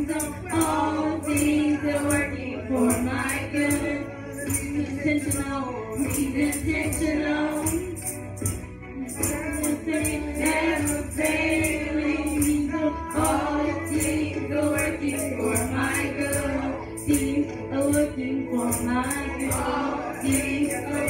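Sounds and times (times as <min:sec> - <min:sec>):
young voices singing gospel: 0:00.0 - 0:07.8, 0:09.2 - 0:21.0
musical accompaniment: 0:00.0 - 0:21.0.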